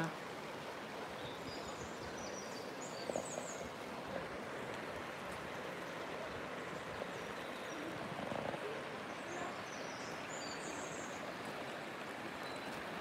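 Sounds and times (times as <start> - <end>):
river water running over rapids: 0.0 - 13.0.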